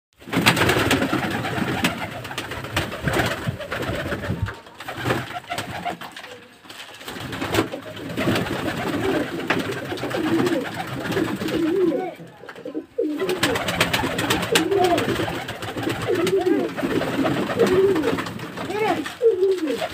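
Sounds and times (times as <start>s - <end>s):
wings flapping: 0.2s - 19.9s
pigeons cooing: 0.6s - 6.2s, 7.2s - 19.9s.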